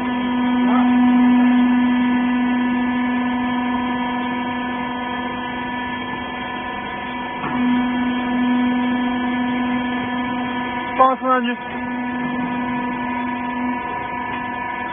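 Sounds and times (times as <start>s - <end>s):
hydraulic motor and pump humming: 0.0s - 14.9s.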